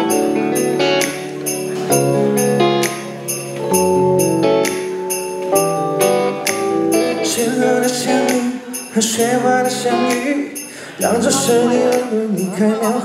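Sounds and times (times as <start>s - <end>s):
pop band playing: 0.0s - 13.0s.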